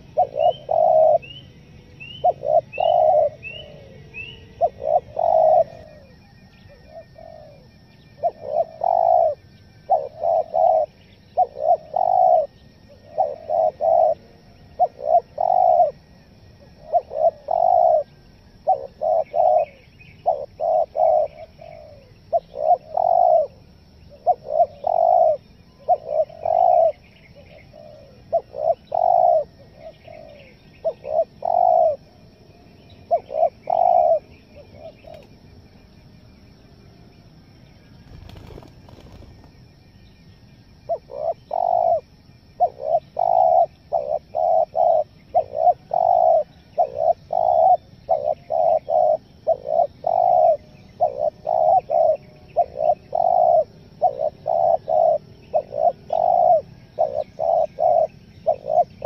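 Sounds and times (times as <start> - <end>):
dove cooing: 0.0 - 32.2, 32.9 - 35.4, 38.0 - 39.5, 40.8 - 59.0
small birds chirping: 0.0 - 59.0.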